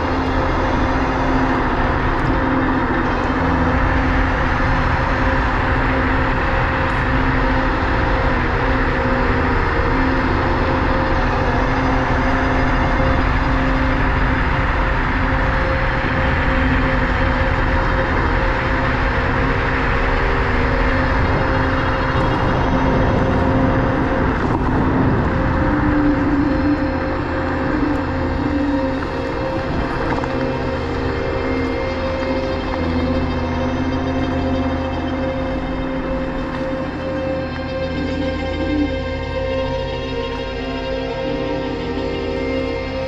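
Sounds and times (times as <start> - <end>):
electric scooter motor whine: 0.0 - 43.0
wind and road rumble: 0.0 - 43.0.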